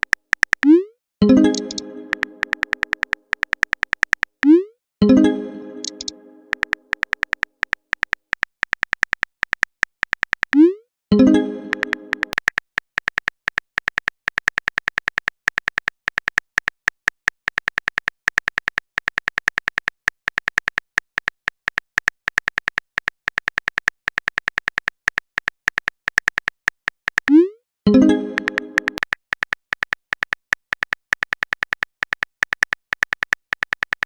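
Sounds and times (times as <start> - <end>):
keyboard typing clicks: 0.0 - 34.0.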